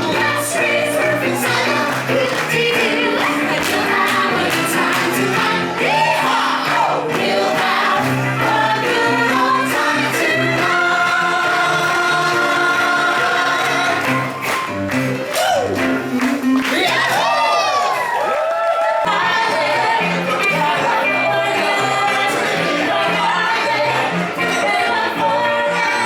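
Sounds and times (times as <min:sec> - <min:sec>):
voices singing together: 0:00.0 - 0:14.6, 0:19.0 - 0:26.0.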